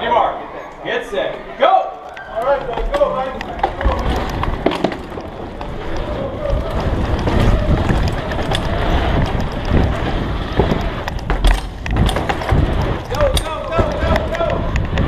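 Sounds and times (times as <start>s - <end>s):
bike knocks and rattles: 2.4s - 15.0s
tyres rumbling on track: 2.4s - 15.0s
wind buffeting microphone: 2.4s - 15.0s.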